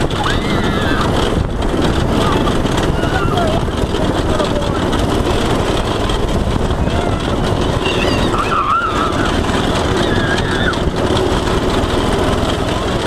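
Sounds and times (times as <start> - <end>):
go-kart engine running: 0.0 - 13.0
kart rumbling and rattling: 0.0 - 13.0.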